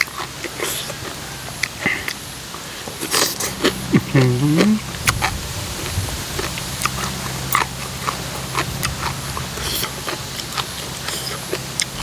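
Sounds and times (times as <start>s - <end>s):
person chewing with open mouth: 0.0s - 12.0s
steady low hum: 0.0s - 12.0s.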